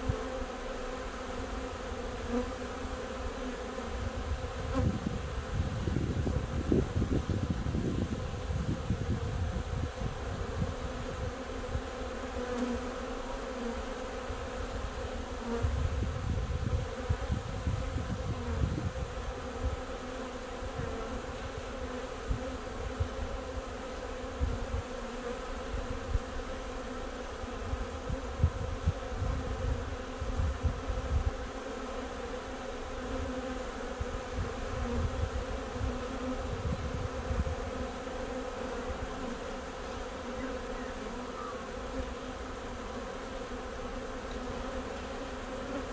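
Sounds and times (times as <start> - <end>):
bees humming: 0.0 - 45.9.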